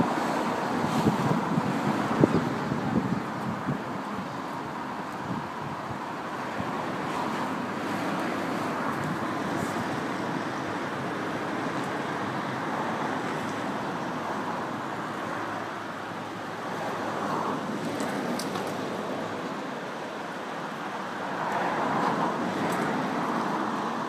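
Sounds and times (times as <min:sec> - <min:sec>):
rushing outdoor background noise: 0:00.0 - 0:24.0.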